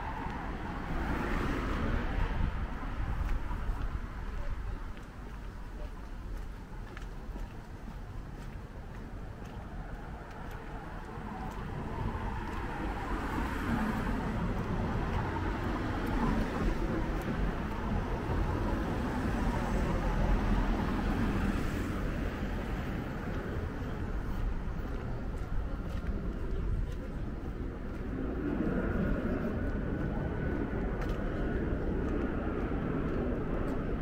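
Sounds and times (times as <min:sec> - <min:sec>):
car engine and tyres approaching: 0:00.0 - 0:34.0.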